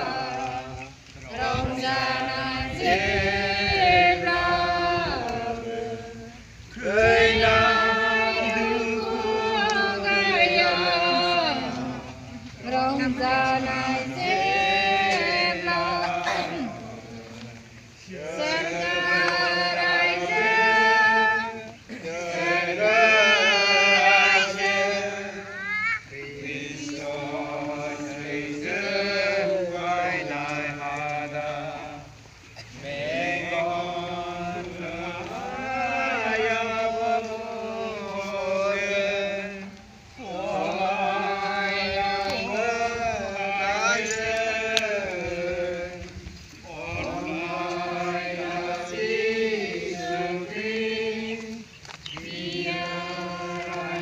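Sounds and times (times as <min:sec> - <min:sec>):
worshippers singing a hymn: 0:00.0 - 0:54.0.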